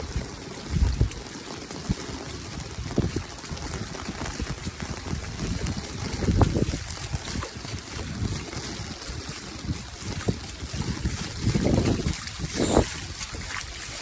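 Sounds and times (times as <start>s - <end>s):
rushing floodwater: 0.0s - 14.0s
wind buffeting microphone: 0.0s - 14.0s.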